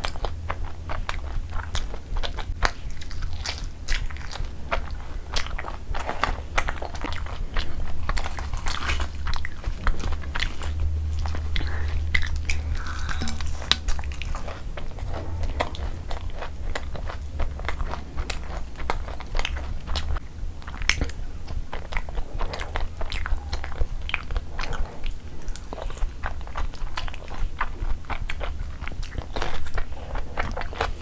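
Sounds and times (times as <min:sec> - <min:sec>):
steady low hum: 0:00.0 - 0:31.0
wet chewing and smacks: 0:00.0 - 0:31.0.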